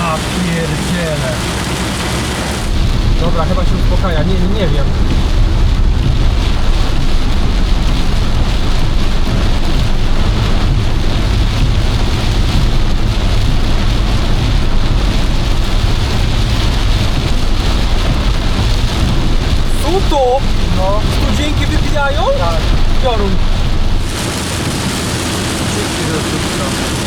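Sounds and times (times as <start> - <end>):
car road rumble: 0.0 - 27.0
rain drumming on car roof: 0.0 - 27.0.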